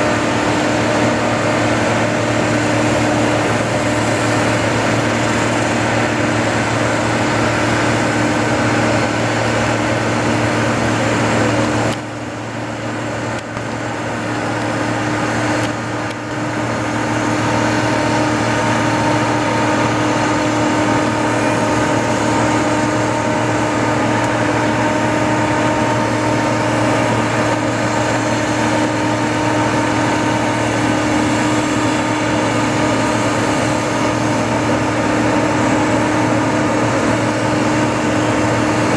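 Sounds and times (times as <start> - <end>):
airliner turbine whine and hum: 0.0 - 38.9.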